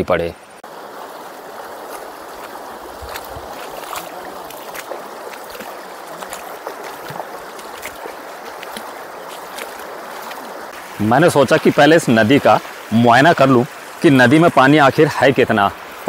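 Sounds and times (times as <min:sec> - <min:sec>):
river flowing over stones: 0:00.4 - 0:16.0
small water splashes: 0:00.6 - 0:16.0.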